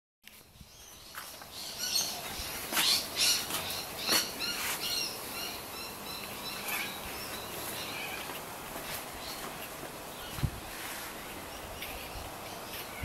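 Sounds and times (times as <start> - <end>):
birds chirping: 0.2 - 13.0.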